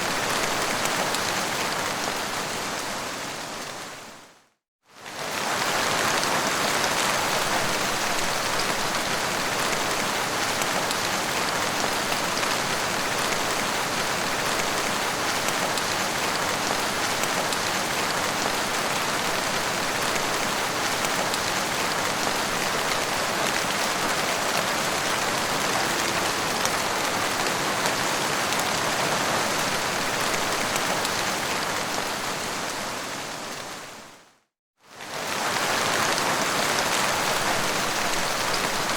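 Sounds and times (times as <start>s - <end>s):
heavy rain falling: 0.0s - 4.1s, 5.0s - 34.2s, 34.9s - 38.9s.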